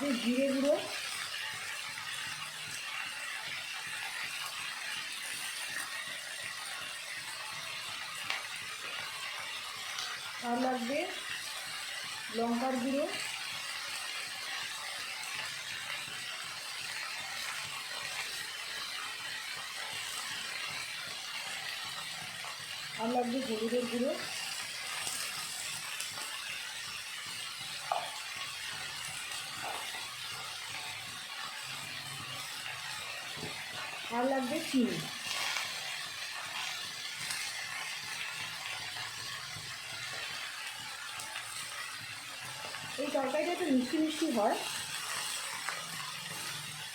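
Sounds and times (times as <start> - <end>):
vegetables sizzling in oil: 0.0 - 46.9.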